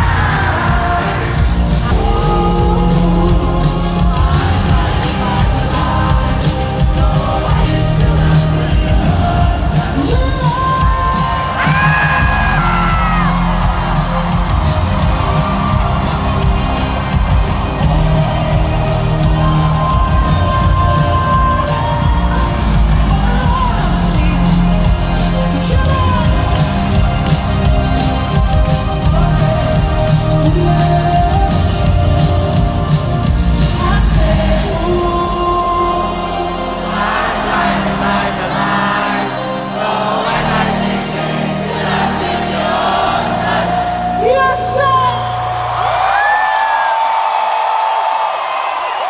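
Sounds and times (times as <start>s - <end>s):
crowd yelling and singing along: 0.0s - 49.0s
live concert music with heavy bass: 0.0s - 49.0s.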